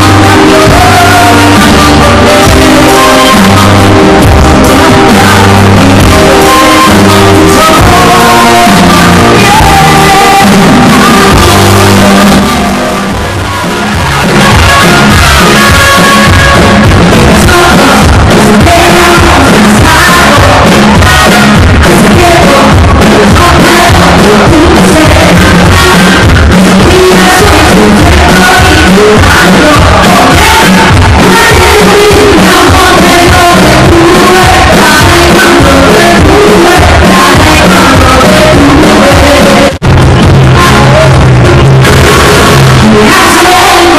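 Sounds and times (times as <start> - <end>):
woman singing into a microphone: 0.0 - 12.5, 17.2 - 39.8, 42.0 - 43.9
live pop music: 0.0 - 43.9.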